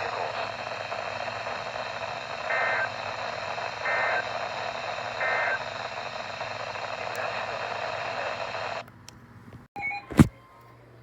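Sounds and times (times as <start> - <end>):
radio hiss: 0.0 - 8.8.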